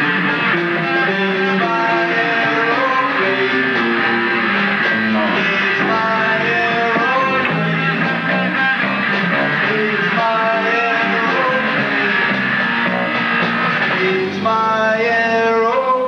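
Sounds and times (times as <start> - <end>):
bass guitar: 0.0 - 16.0
drum kit: 0.0 - 16.0
electric guitar: 0.0 - 16.0
person singing: 0.0 - 16.0.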